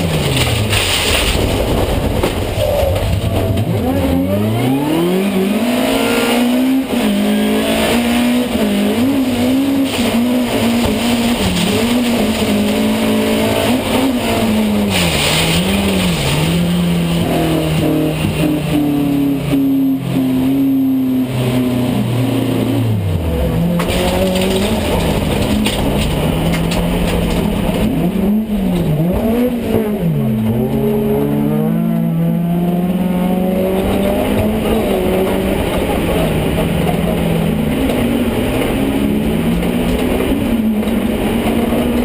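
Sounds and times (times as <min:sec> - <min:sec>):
race car engine revving: 0:00.0 - 0:42.0.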